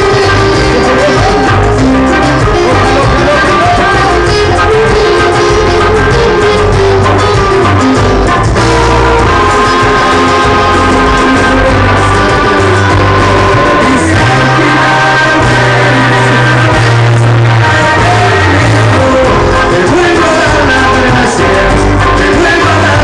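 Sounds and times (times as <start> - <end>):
band playing instrumental music: 0.0 - 23.0.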